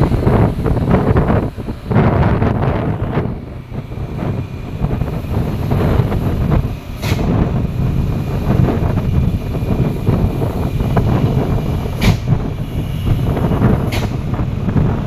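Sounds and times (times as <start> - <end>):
heavy traffic rumbling: 0.0 - 15.0
wind buffeting microphone: 0.0 - 15.0.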